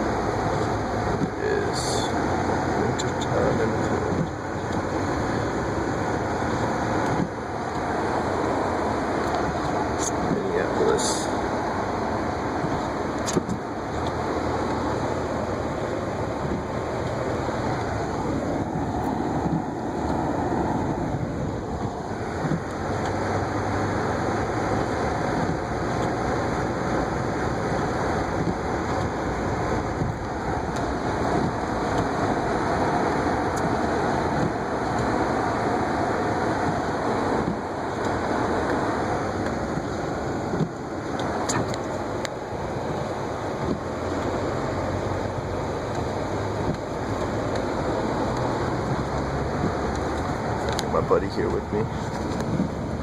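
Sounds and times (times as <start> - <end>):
car engine rumble: 0.0 - 53.0.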